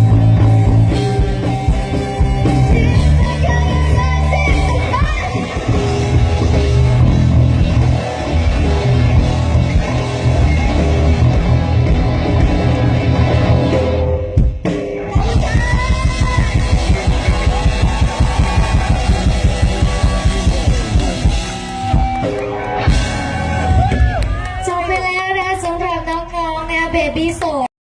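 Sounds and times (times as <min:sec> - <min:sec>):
live rock band playing: 0:00.0 - 0:25.9.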